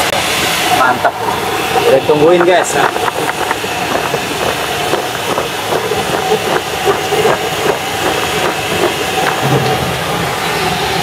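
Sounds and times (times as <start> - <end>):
gas burner and frying oil hissing: 0.0 - 11.0.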